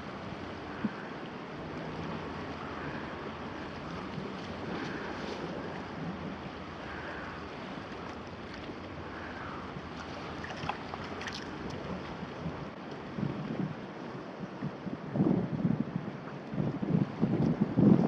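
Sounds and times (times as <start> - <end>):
sea waves washing on shore: 0.0 - 18.0
wind on microphone: 0.0 - 18.0.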